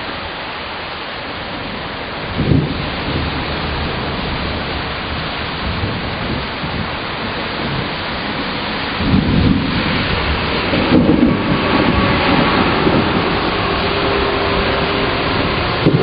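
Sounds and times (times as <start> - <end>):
heavy rain falling: 0.0 - 16.0
low rumble of thunder: 1.4 - 16.0.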